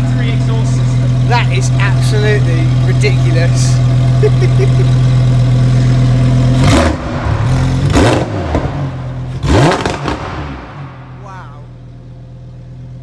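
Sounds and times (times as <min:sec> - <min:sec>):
sports car engine idling and revving: 0:00.0 - 0:13.0.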